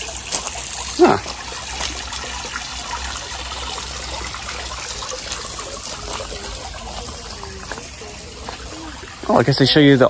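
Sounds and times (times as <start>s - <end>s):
fountain water trickling and splashing: 0.0s - 10.0s.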